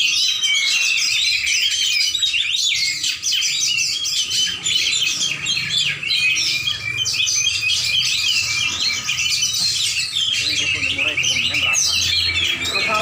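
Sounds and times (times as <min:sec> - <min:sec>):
songbird chirping and whistling: 0:00.0 - 0:13.0.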